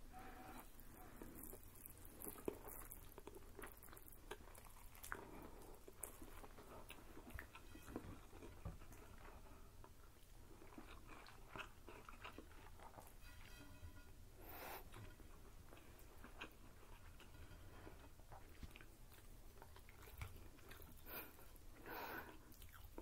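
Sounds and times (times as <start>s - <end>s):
soft chewing: 0.0s - 23.0s.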